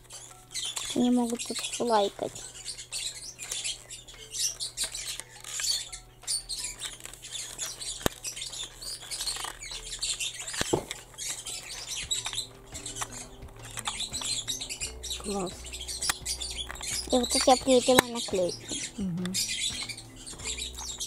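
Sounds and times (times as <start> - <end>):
scratchy rustles of stickers: 0.0 - 21.0
plastic clicks: 0.1 - 21.0.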